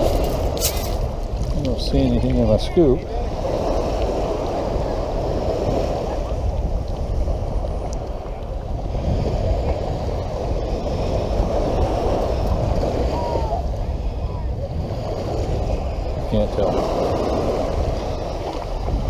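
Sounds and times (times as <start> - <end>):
seawater sloshing: 0.0 - 19.0
wind buffeting microphone: 0.0 - 19.0.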